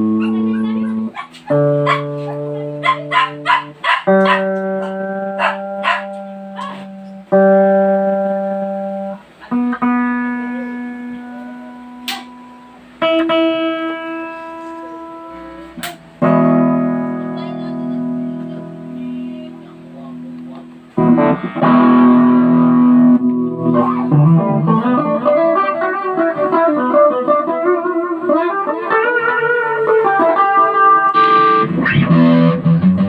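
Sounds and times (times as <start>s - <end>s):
electric guitar playing: 0.0s - 33.0s.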